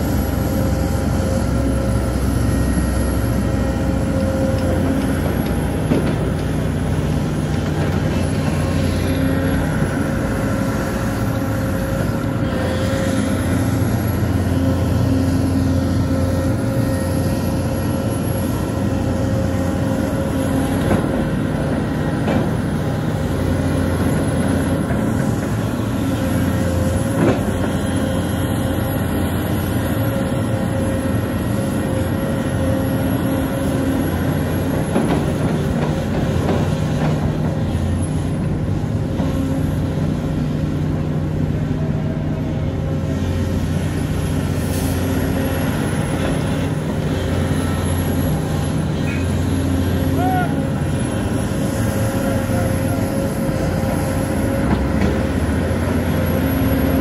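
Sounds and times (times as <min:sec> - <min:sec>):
excavator diesel engine and hydraulics: 0:00.0 - 0:57.0.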